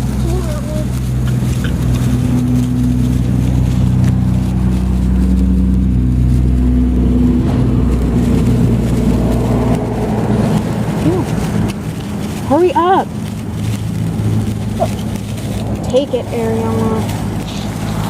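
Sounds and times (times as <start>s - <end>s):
loud engine-like drone: 0.0s - 18.0s.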